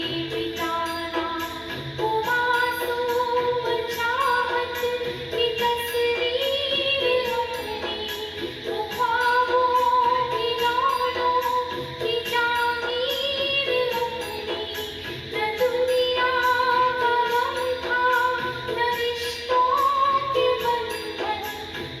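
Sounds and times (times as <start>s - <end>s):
instrumental accompaniment: 0.0s - 22.0s
steady percussion beat: 0.0s - 22.0s.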